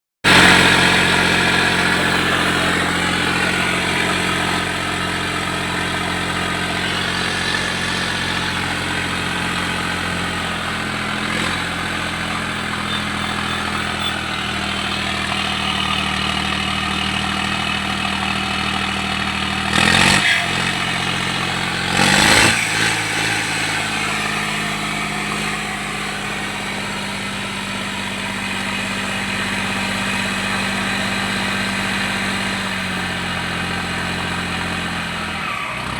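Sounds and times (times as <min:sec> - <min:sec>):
diesel engine idling: 0:00.2 - 0:35.9.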